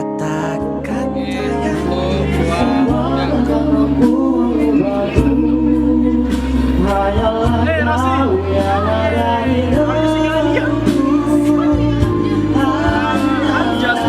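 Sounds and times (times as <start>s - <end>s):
bass and chord accompaniment: 0.0s - 14.0s
person singing pop ballad: 0.0s - 14.0s.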